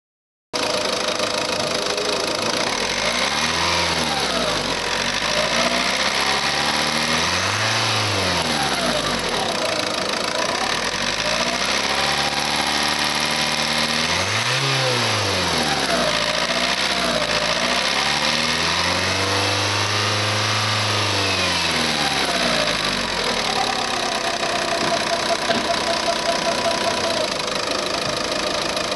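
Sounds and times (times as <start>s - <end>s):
diesel engine revving and idling: 0.6s - 28.9s.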